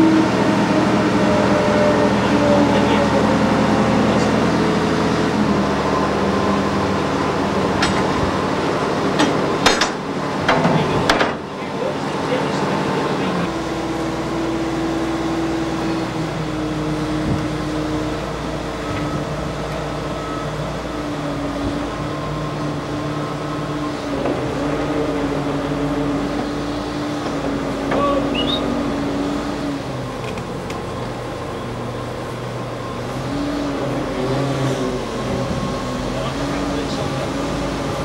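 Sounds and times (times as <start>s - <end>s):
crane engine running: 0.0s - 38.0s.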